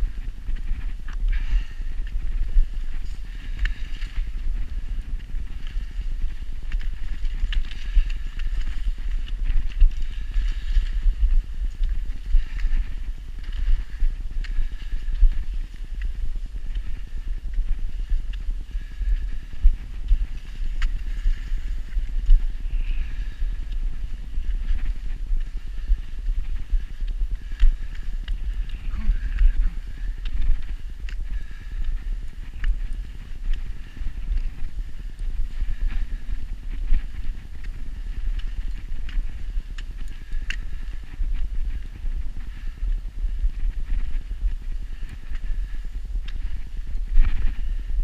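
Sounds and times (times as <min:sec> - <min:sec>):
footsteps crunching on snow: 0:00.0 - 0:42.8
low microphone rumble: 0:00.0 - 0:48.0.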